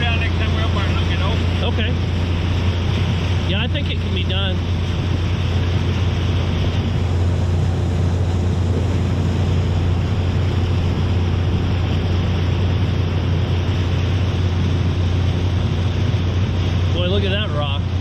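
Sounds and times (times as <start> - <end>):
boat motor humming: 0.0 - 18.0
rushing water: 0.0 - 18.0
wind buffeting microphone: 0.0 - 18.0.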